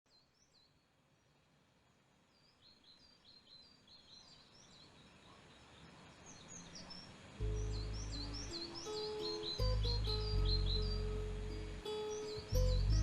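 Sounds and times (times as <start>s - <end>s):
small birds chirping: 0.1s - 13.0s
soft hiss: 0.1s - 13.0s.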